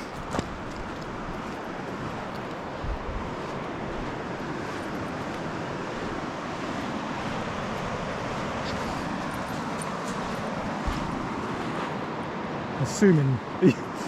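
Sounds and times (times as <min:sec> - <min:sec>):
creek water rushing over rocks: 0:00.0 - 0:13.2.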